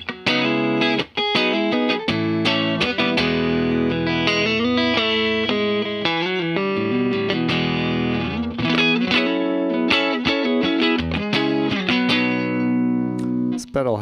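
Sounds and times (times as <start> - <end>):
compressed electric guitar: 0.0 - 13.8.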